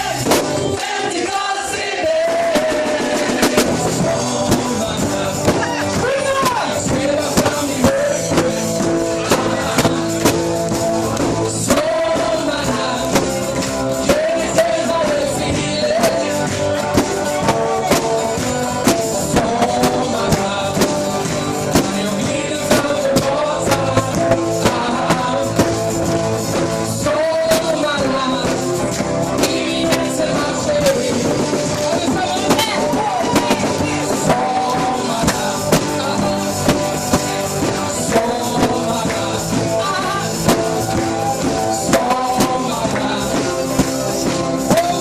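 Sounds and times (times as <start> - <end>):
acoustic band playing: 0.0 - 45.0
person singing lead vocal: 0.0 - 45.0.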